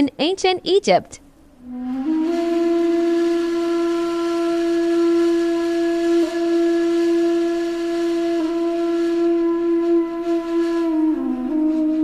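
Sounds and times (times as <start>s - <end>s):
low reedy woodwind note: 1.6s - 12.0s.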